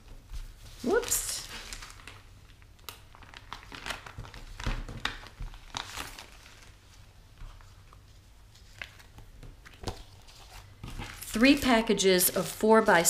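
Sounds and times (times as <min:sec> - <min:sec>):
plastic sleeves crinkling: 0:00.3 - 0:13.0.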